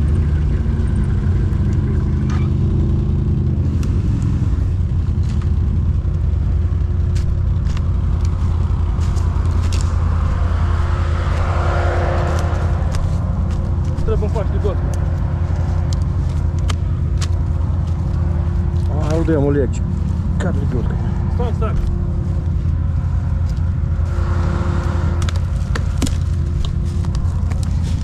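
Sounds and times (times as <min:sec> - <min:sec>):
atv engine humming: 0:00.0 - 0:28.0.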